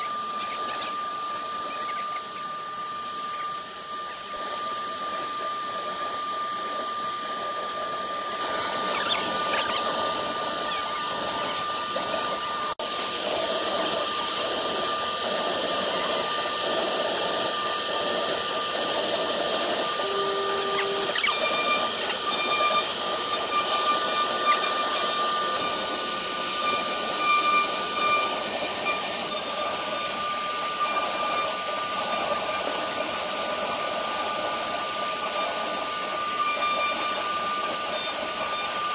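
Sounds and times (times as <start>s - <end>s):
bit cutting wood hiss: 0.0s - 12.3s, 13.4s - 38.9s
router spindle whining: 0.0s - 38.9s.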